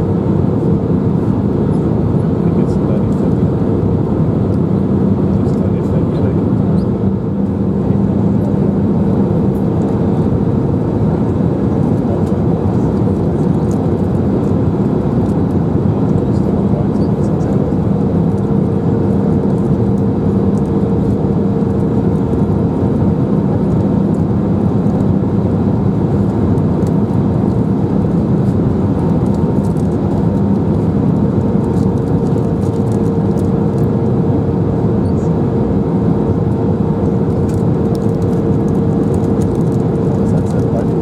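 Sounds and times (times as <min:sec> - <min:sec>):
constant low hum: 0:00.0 - 0:41.0
engines and airflow rushing: 0:00.0 - 0:41.0.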